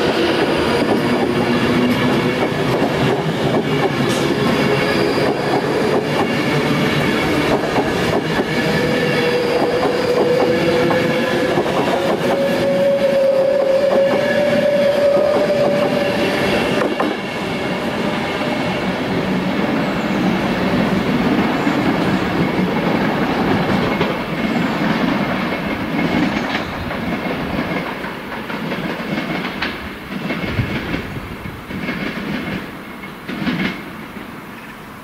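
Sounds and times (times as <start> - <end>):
train wheels rumbling: 0.0 - 34.6.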